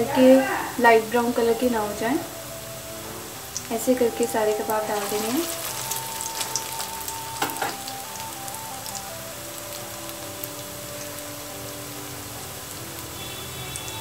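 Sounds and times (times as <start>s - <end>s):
slow melody music: 0.0s - 14.0s
oil sizzling and crackling: 0.8s - 14.0s.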